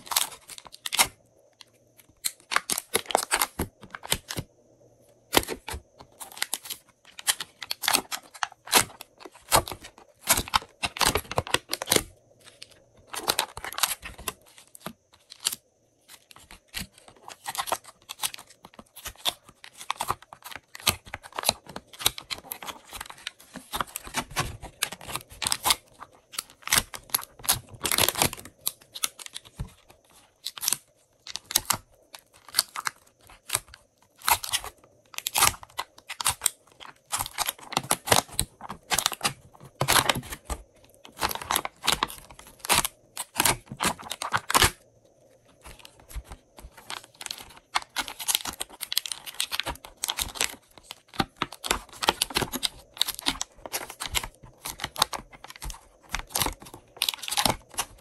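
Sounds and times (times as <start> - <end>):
plastic tray crinkling: 0.0 - 4.5, 5.3 - 44.8, 45.5 - 58.0.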